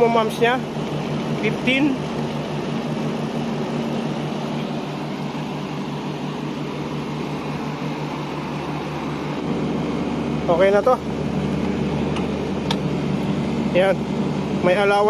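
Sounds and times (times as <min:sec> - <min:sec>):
air conditioning unit humming: 0:00.0 - 0:15.0.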